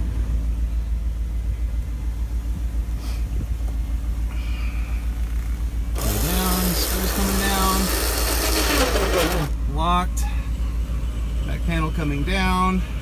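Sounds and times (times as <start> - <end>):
convertible top motor rumble: 0.0 - 13.0.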